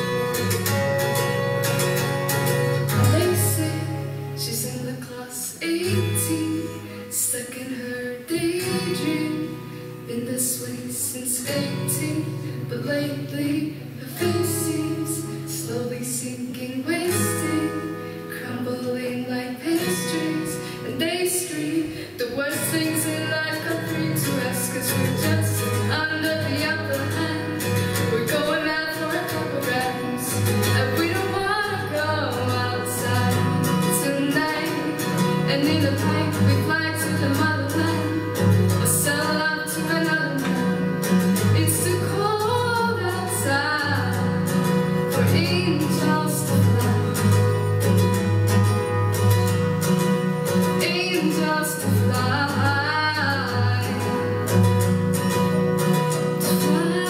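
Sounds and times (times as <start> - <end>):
acoustic guitar: 0.0 - 57.0
woman singing: 0.0 - 57.0.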